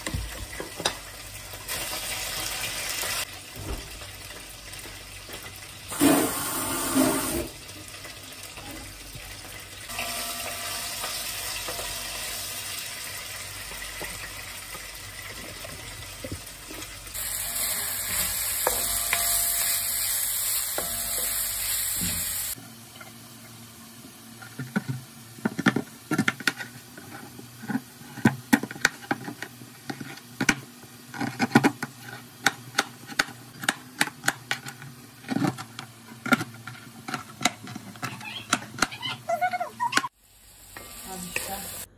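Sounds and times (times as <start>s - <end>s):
vegetables sizzling in a pan: 0.0s - 31.3s, 38.2s - 41.9s.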